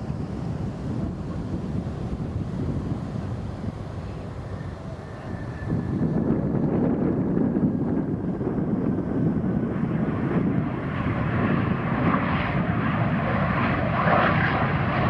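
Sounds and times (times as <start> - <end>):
airplane engines: 0.0 - 15.0
high engine whine: 0.0 - 15.0
wind buffeting microphone: 0.0 - 15.0.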